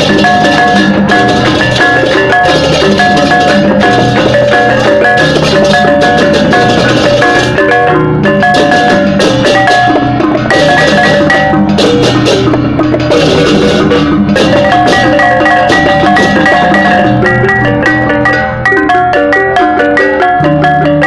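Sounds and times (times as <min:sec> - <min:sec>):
drums: 0:00.0 - 0:21.0
gong-chimes and metallophones ringing: 0:00.0 - 0:21.0.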